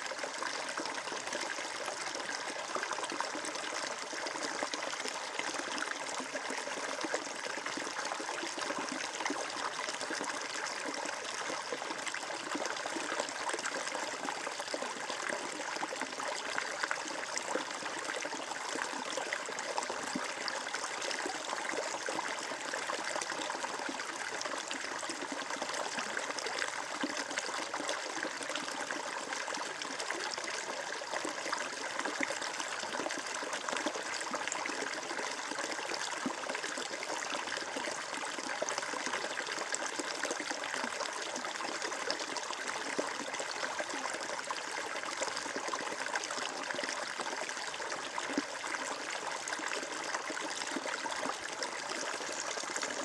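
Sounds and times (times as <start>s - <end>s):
water flowing over stones: 0.0s - 53.0s.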